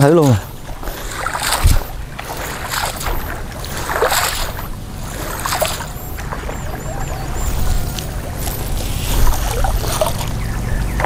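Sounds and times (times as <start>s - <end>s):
steady low hum: 0.0s - 11.0s
water splashing and sloshing: 0.0s - 11.0s.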